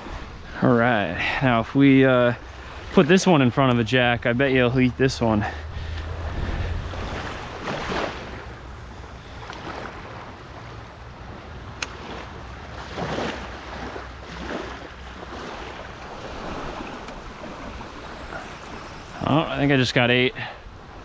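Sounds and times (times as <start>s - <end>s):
small waves washing onto sand: 0.0s - 21.0s
wind buffeting microphone: 1.6s - 19.9s.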